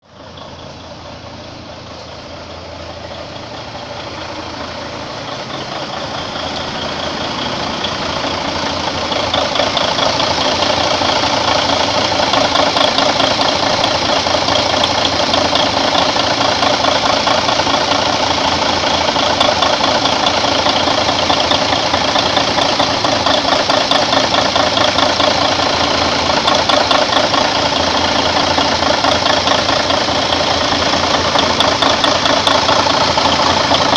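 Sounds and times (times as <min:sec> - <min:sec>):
truck diesel engine clattering: 0:00.0 - 0:33.9.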